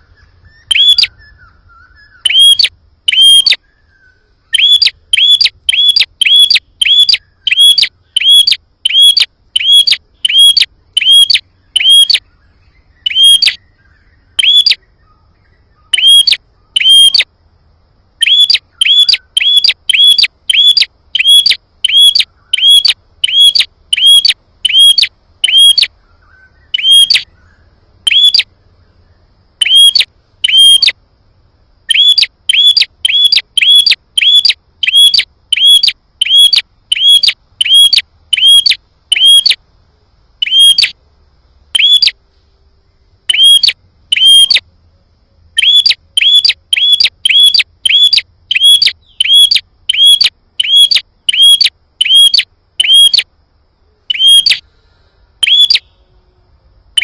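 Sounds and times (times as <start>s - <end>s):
bird call sharp chirps: 0.0s - 17.3s, 18.2s - 28.5s, 29.6s - 31.0s, 31.9s - 39.6s, 40.4s - 41.0s, 41.8s - 42.2s, 43.3s - 44.6s, 45.6s - 53.3s, 54.1s - 54.8s, 55.4s - 56.1s.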